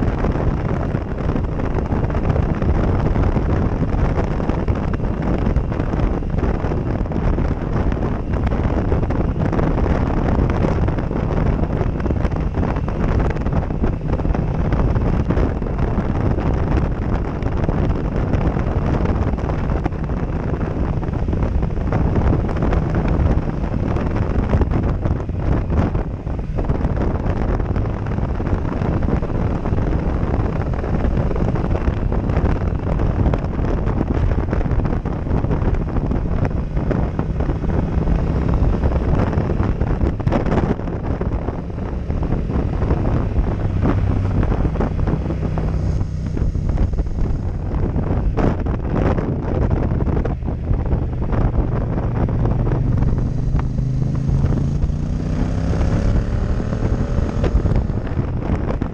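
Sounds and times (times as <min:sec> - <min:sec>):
motorcycle engine at speed: 0:00.0 - 0:58.9
wind buffeting microphone: 0:00.0 - 0:58.9.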